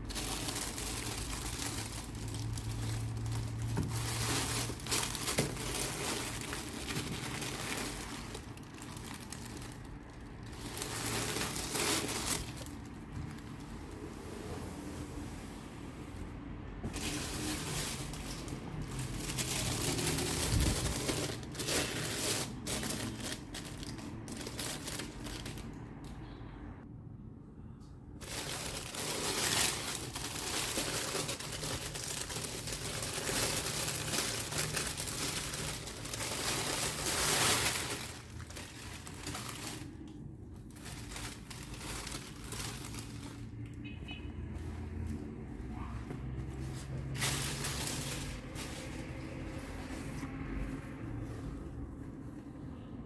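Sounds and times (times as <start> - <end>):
packaging crinkling and rustling: 0.0 - 14.0, 16.8 - 26.2, 28.2 - 43.6, 45.9 - 51.6.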